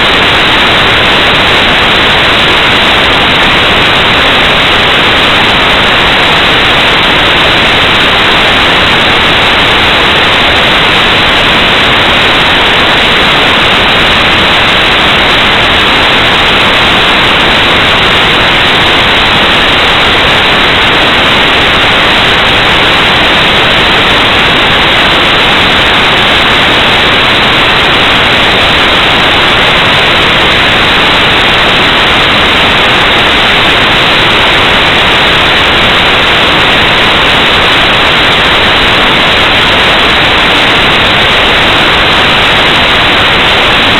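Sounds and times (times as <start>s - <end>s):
static hiss: 0.0s - 43.9s.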